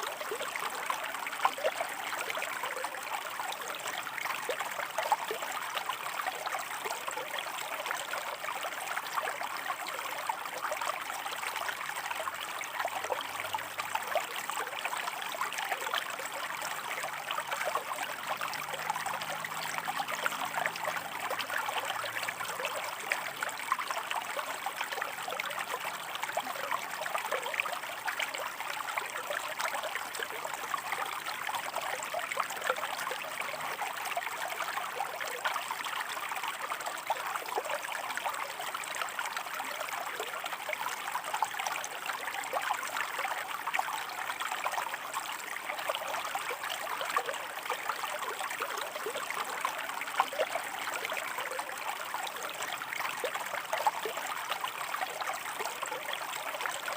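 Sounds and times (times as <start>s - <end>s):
stream trickling over rocks: 0.0s - 56.9s.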